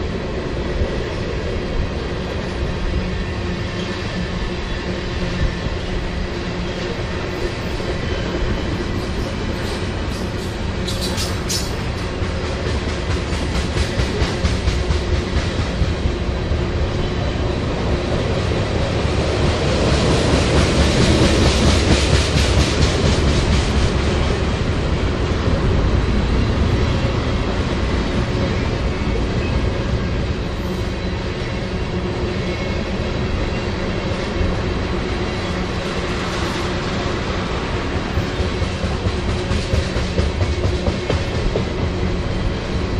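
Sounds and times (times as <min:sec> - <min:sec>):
freight train rumbling past: 0:00.0 - 0:42.9.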